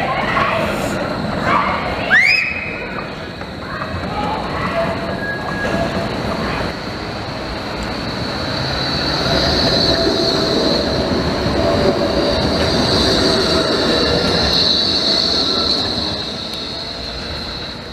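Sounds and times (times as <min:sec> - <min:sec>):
tram wheels squealing on rails: 0:00.0 - 0:17.9.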